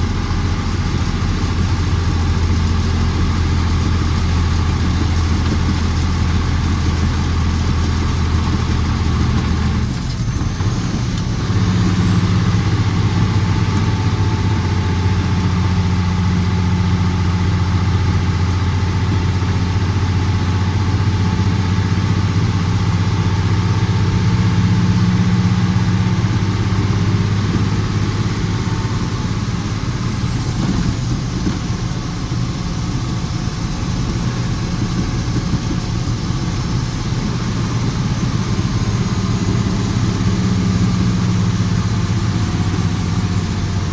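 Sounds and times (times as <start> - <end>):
truck diesel engine drone: 0.0 - 43.9.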